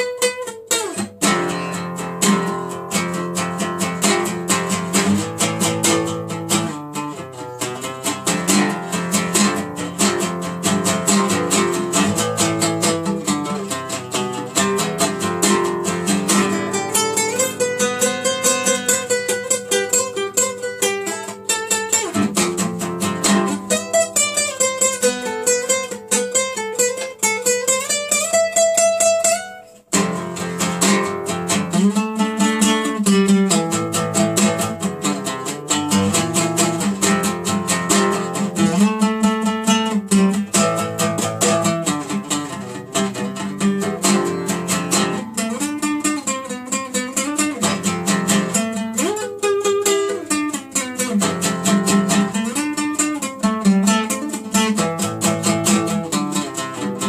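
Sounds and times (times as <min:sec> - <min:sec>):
classical guitar playing fast: 0:00.0 - 0:57.0.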